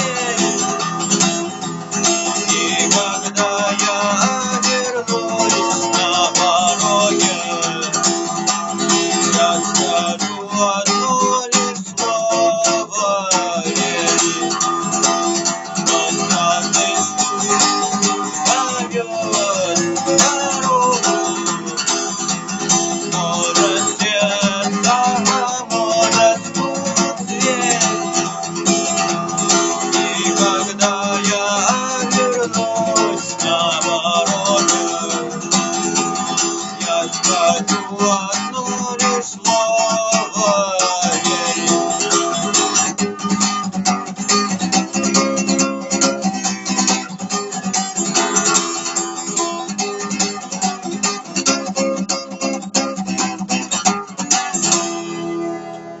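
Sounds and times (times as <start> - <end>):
guitar strumming chords: 0.0 - 56.0.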